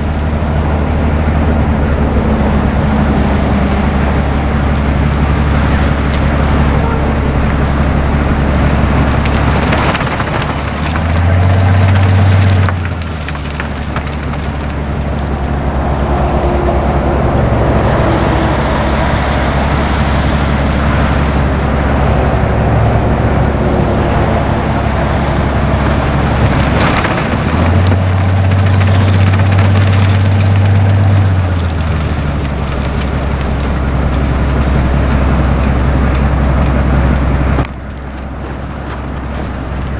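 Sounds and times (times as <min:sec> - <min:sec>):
deep diesel engine drone: 0:00.0 - 0:39.9.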